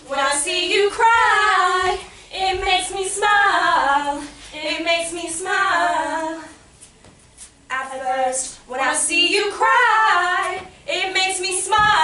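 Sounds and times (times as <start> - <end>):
woman singing: 0.0 - 6.6, 7.7 - 12.0.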